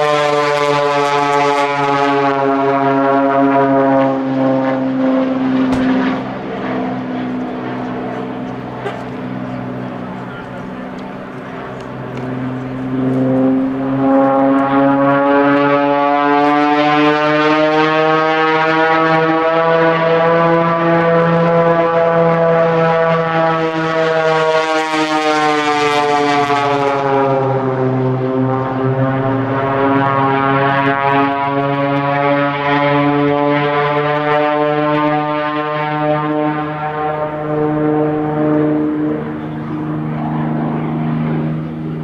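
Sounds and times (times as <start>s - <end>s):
propeller plane engine droning: 0.0s - 42.0s.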